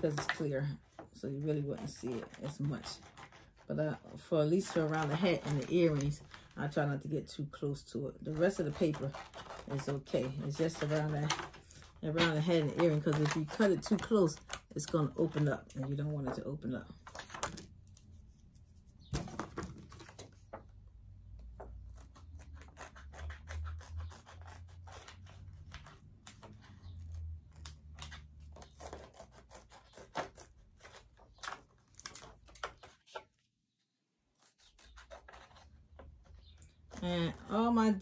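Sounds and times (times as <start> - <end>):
scissors snipping paper: 0.0 - 18.1, 21.4 - 33.2, 34.4 - 38.0.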